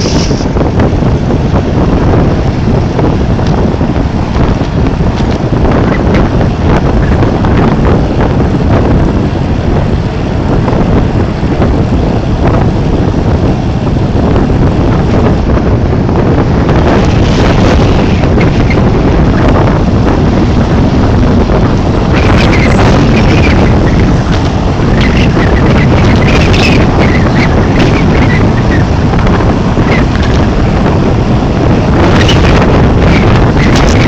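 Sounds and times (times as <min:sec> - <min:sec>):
strong wind blasting microphone: 0:00.0 - 0:34.0.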